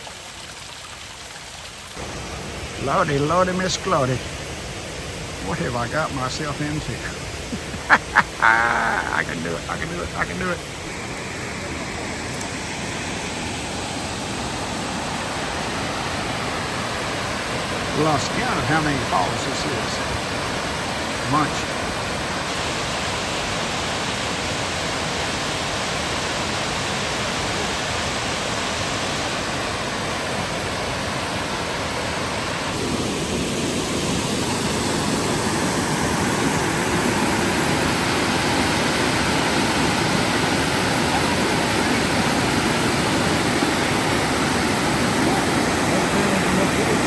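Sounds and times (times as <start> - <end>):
waterfall rushing: 1.5 - 47.0.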